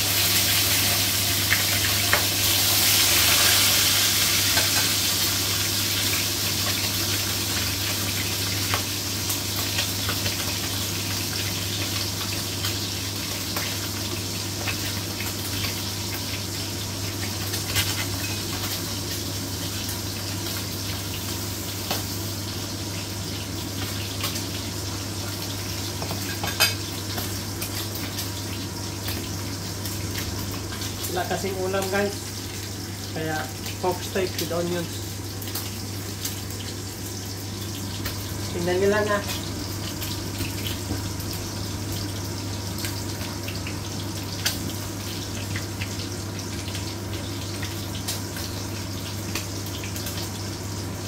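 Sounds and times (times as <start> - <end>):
meat sizzling in oil: 0.0 - 51.0.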